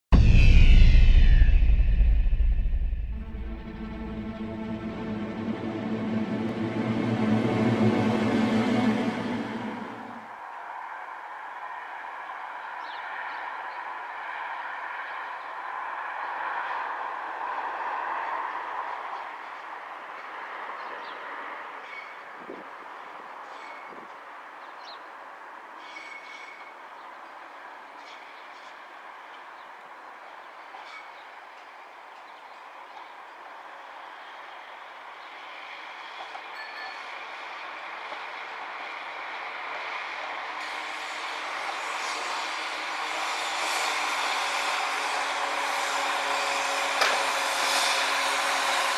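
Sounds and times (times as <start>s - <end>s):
distant diesel train approaching: 0.1s - 48.9s.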